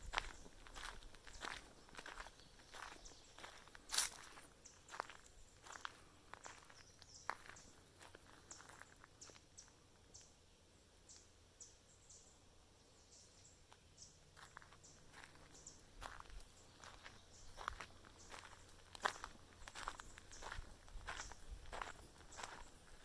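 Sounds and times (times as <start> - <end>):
soft footsteps on trail: 0.0 - 10.3, 13.7 - 23.0.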